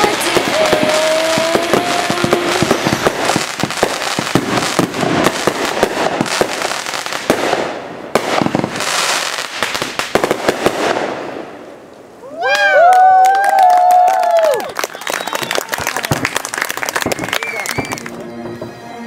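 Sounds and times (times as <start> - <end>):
fireworks crackling and banging: 0.0 - 12.0, 12.6 - 18.8.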